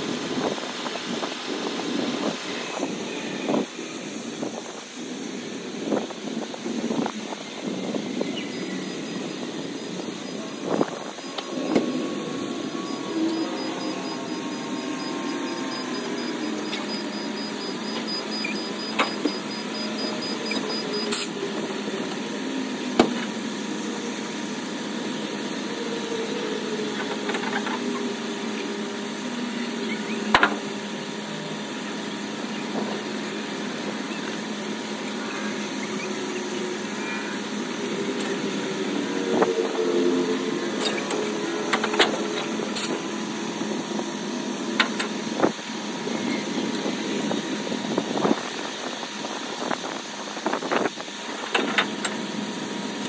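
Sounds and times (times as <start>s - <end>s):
vehicle engine running: 3.8s - 53.0s.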